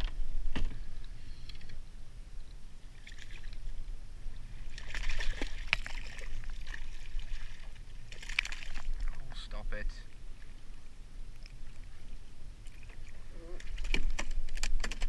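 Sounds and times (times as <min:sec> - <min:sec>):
water splashing: 0:02.9 - 0:15.0.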